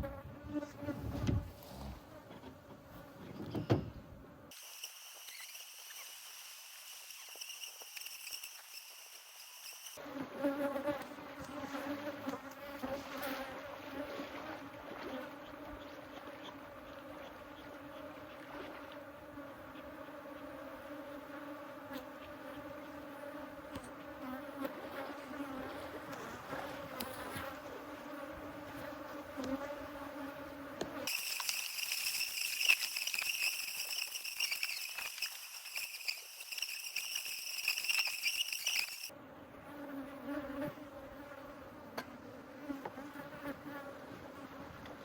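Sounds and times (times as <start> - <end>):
honeybees buzzing: 4.5 - 41.8.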